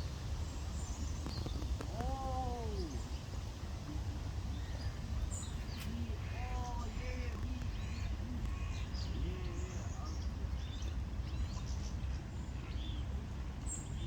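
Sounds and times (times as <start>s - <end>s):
low wind rumble: 0.0s - 14.0s
small birds chirping faintly: 0.0s - 14.0s.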